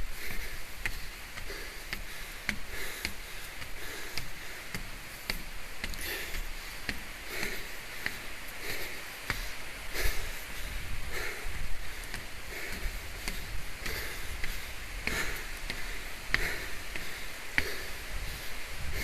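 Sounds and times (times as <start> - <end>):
light footsteps walking: 0.0 - 19.0.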